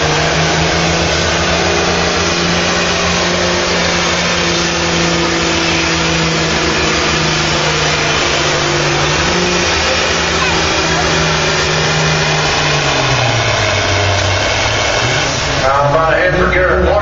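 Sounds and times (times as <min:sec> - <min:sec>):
diesel engine running hard: 0:00.0 - 0:17.0.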